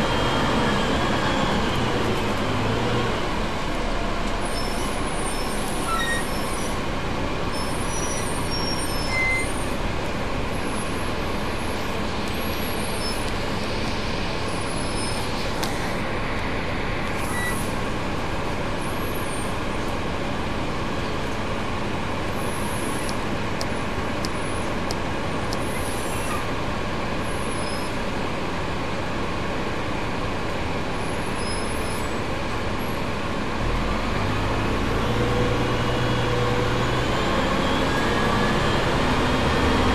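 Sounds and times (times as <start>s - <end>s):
bus engine droning: 0.0s - 39.9s
road noise: 0.0s - 39.9s.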